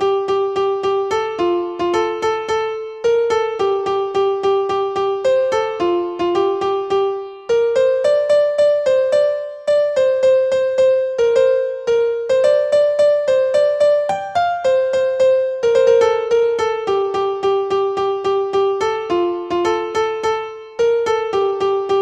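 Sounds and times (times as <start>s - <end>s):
simple melody background music: 0.0s - 22.0s.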